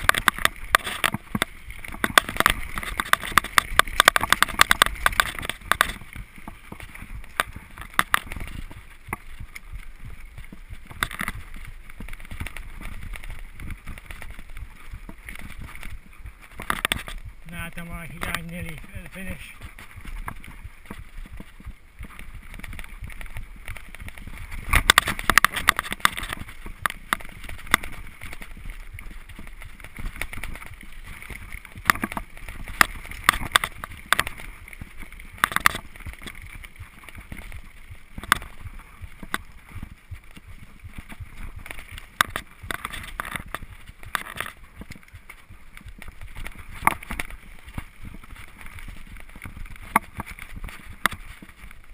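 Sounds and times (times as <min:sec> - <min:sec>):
bike rattling over bumps: 0:00.0 - 0:51.9
bike tyre and trail noise: 0:00.0 - 0:51.9.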